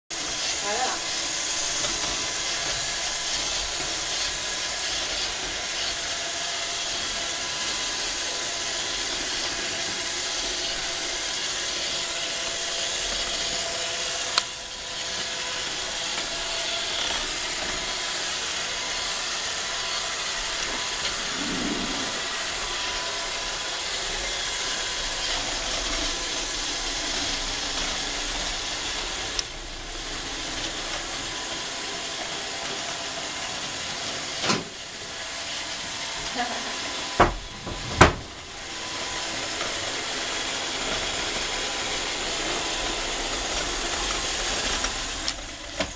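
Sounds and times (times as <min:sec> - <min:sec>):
robot vacuum whirring: 0:00.2 - 0:45.9.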